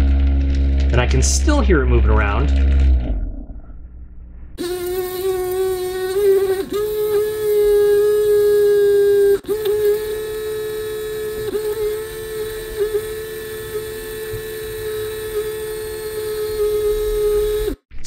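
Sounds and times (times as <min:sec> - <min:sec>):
electric motor humming: 0:00.0 - 0:17.9.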